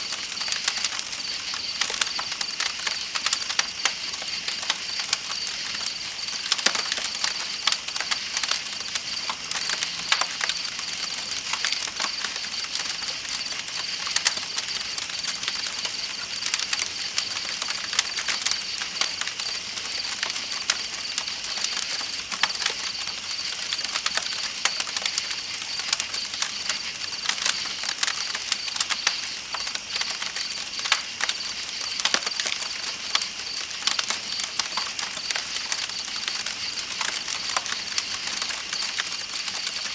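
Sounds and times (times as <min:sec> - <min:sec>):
campfire crackling: 0:00.0 - 0:39.9
night insects trilling: 0:00.0 - 0:39.9.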